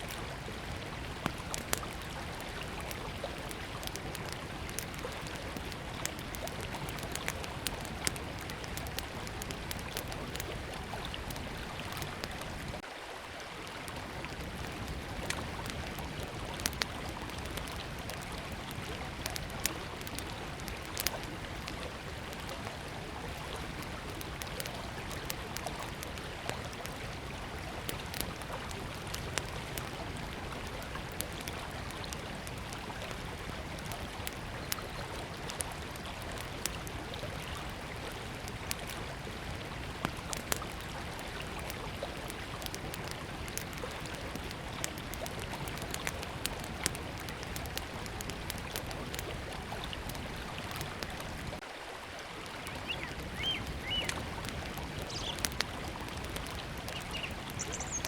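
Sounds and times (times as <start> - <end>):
campfire crackling: 0.0 - 58.0
small river flowing: 0.0 - 58.0.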